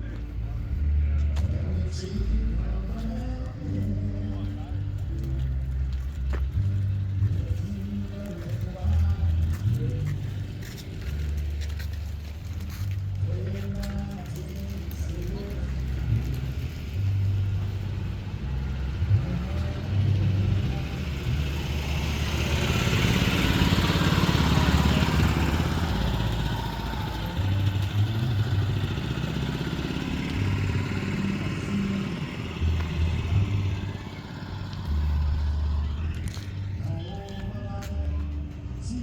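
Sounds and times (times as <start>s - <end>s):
low rumble: 0.0s - 39.0s
vehicle passing by: 0.0s - 39.0s.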